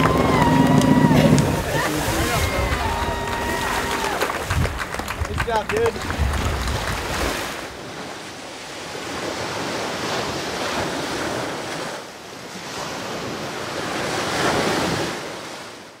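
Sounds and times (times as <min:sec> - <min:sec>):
surf breaking on sandy beach: 0:00.0 - 0:15.9.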